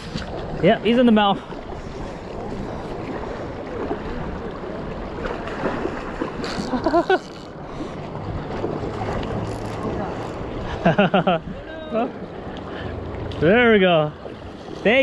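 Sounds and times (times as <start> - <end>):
fast river water rushing: 0.0 - 15.0.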